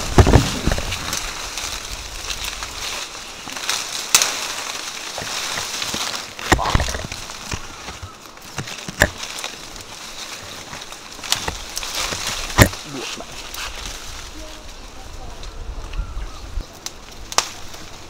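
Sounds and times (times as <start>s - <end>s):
branches cracking: 0.0s - 18.0s
leaves and branches rustling: 0.0s - 18.0s.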